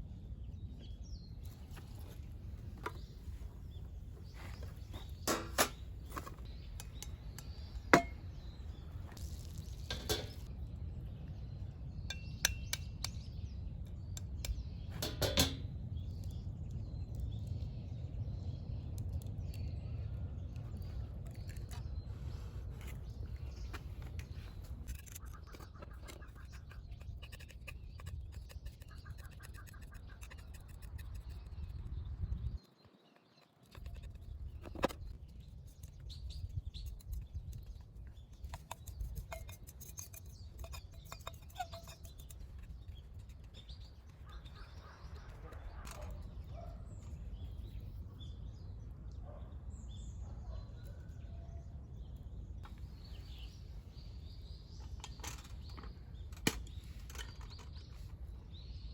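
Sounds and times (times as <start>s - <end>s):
birdsong: 0.0s - 58.9s.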